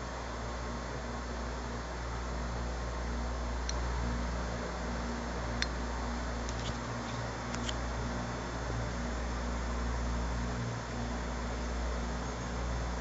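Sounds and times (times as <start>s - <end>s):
aquarium pump humming: 0.0s - 13.0s.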